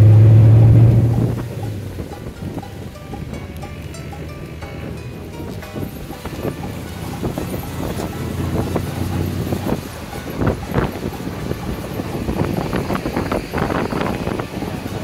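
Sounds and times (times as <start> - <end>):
car engine and road rumble: 0.0 - 15.0
wind gusting on microphone: 0.0 - 15.0.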